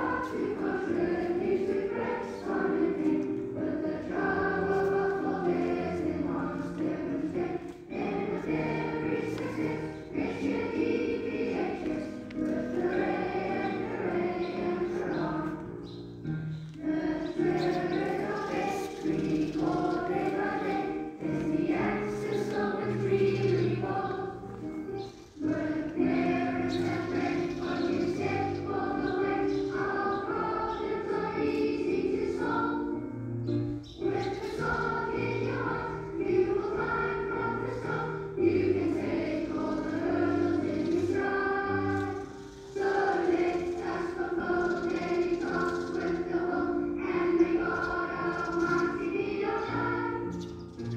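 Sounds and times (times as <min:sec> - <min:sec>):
choir of students singing: 0:00.0 - 0:50.9.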